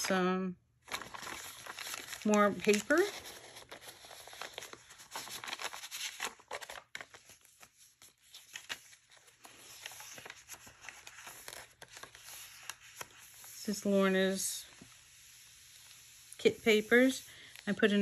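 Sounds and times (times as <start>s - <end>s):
paper rustling: 0.8s - 18.0s.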